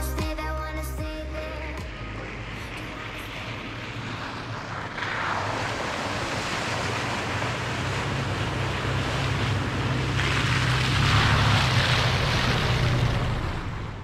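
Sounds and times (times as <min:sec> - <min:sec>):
low engine hum: 0:00.0 - 0:14.0
tyres and wind rushing: 0:00.0 - 0:14.0.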